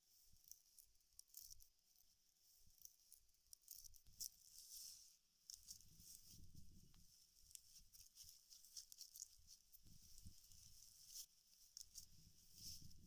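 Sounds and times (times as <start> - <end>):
dry fibre rustling and crackling: 0.0 - 13.0.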